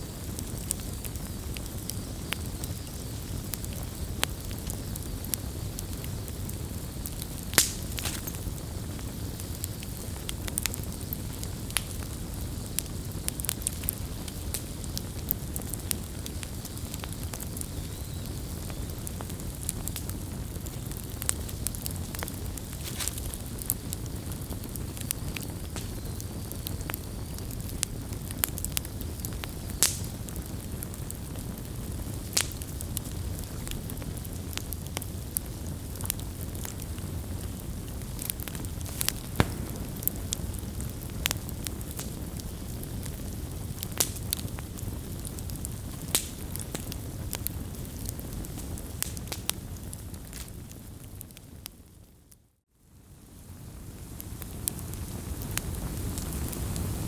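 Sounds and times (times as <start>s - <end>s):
campfire flames rumbling: 0.0s - 52.3s, 52.9s - 57.0s
burning wood crackling and popping: 0.0s - 52.4s, 53.0s - 57.0s.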